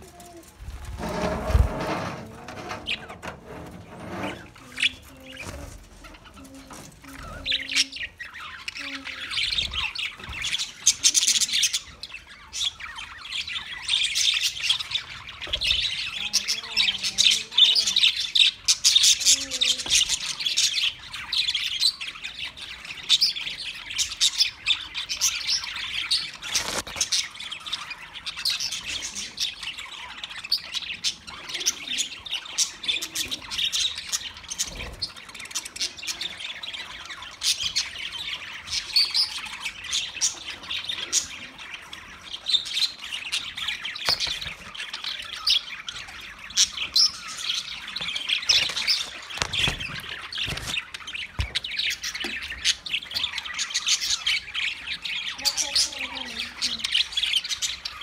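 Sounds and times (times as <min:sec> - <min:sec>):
budgerigars chirping: 0:07.2 - 0:58.0.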